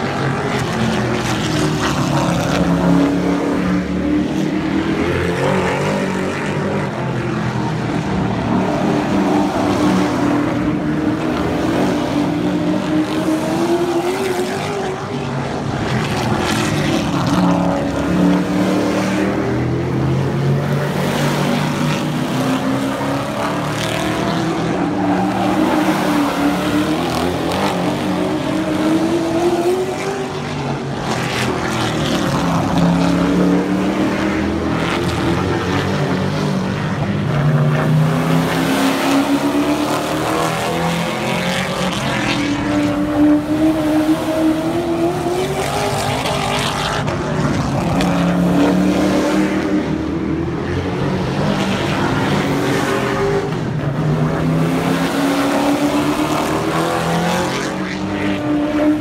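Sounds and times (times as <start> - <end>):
race truck engines passing: 0.0 - 59.0.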